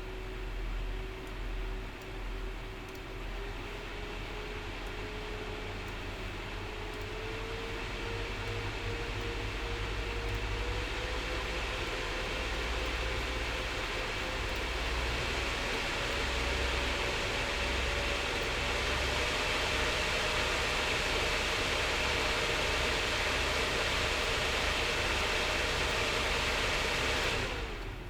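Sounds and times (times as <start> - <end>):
cooler fans whirring: 0.0 - 28.0.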